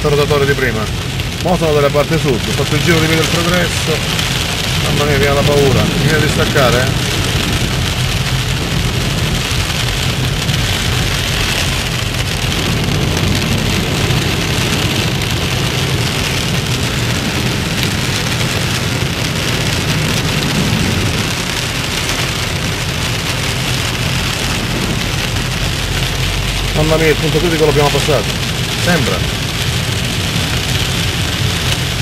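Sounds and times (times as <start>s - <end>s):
car humming on wet road: 0.0s - 32.0s
heavy rain on a car: 0.0s - 32.0s.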